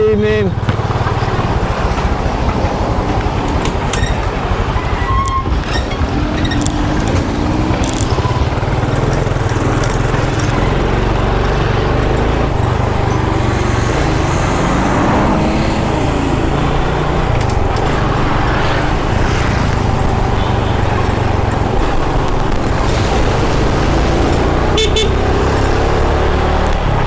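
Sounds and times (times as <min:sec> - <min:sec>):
motorbike engine running: 0:00.0 - 0:27.0
road noise: 0:00.0 - 0:27.0
rushing wind: 0:00.0 - 0:27.0.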